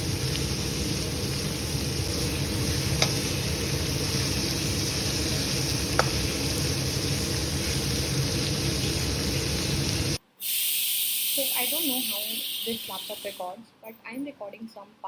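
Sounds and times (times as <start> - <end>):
food sizzling in a pan: 0.0 - 13.6.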